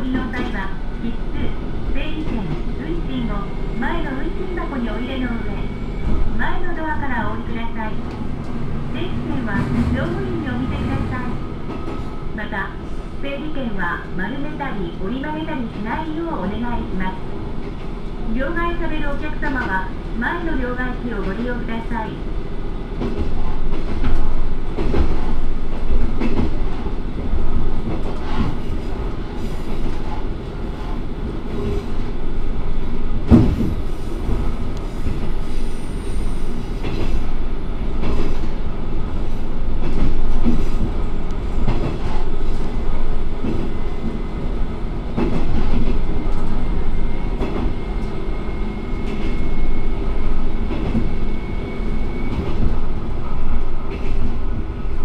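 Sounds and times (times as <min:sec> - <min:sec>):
diesel railcar engine rumble: 0:00.0 - 0:55.0.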